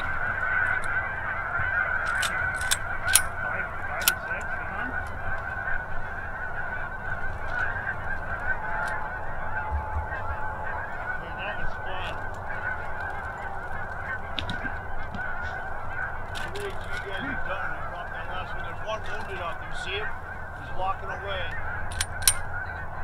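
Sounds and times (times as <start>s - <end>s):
flock of geese honking: 0.0s - 23.0s.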